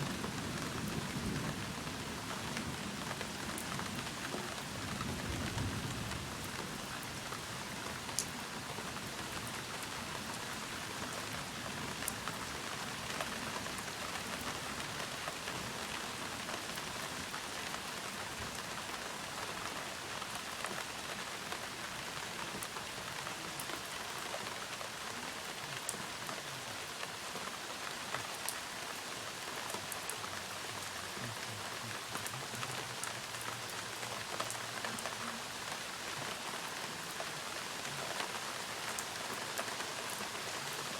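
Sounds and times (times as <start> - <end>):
heavy rain: 0.0 - 40.9
raindrops ticking close by: 0.1 - 40.9.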